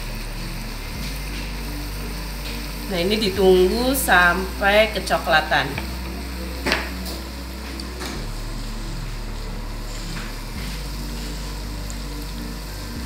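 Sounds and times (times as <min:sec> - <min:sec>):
dough sizzling in hot oil: 0:00.0 - 0:13.0
low steady hum: 0:00.0 - 0:13.0.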